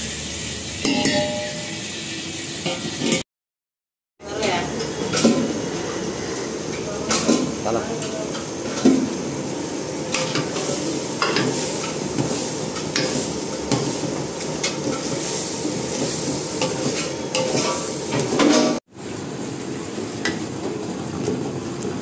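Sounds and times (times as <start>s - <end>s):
sizzling hiss of cooking: 0.0s - 3.2s, 4.2s - 22.0s.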